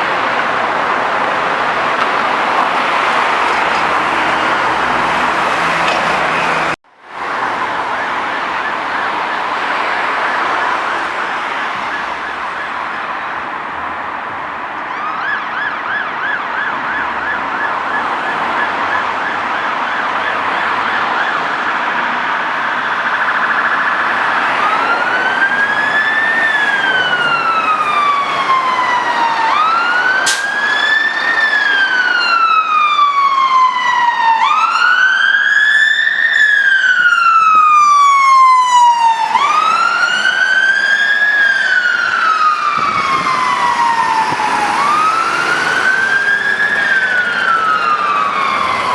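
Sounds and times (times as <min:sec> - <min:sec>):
fire engine siren: 0:00.0 - 0:48.9.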